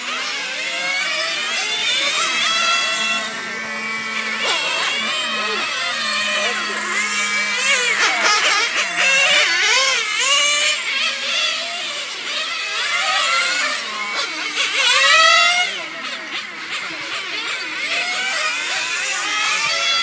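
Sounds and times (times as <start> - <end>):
small engines whining at high revs: 0.0 - 20.0.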